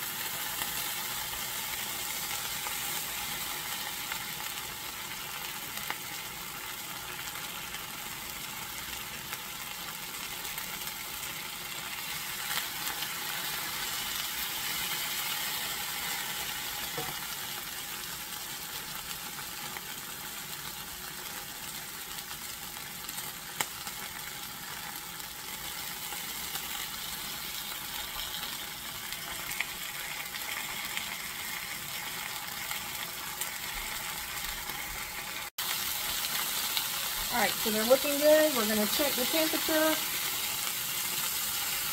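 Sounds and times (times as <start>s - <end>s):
steaks sizzling in oil: 0.0s - 41.9s.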